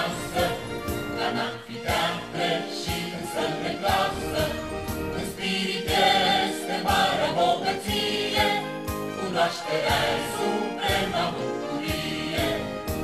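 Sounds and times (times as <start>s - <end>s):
background music with singing: 0.0s - 13.0s.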